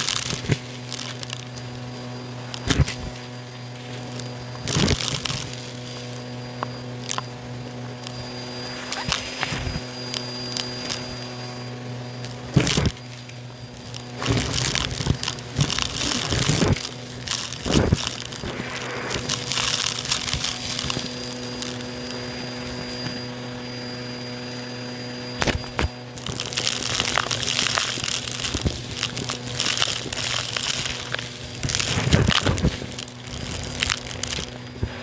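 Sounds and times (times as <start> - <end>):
debris crackling in vacuum: 0.0 - 35.0
vacuum cleaner motor hum: 0.0 - 35.0.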